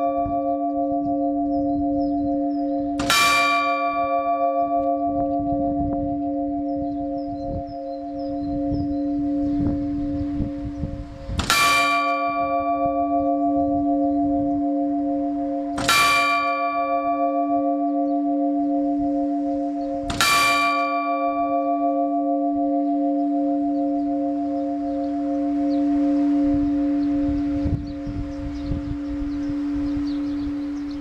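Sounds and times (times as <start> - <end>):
church bell ringing: 0.0 - 31.0.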